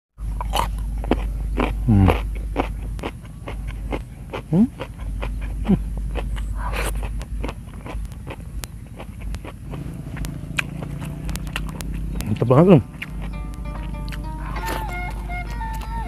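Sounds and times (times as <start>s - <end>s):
person chewing crunchy food: 0.2s - 16.0s
wet mouth clicks: 0.5s - 15.0s.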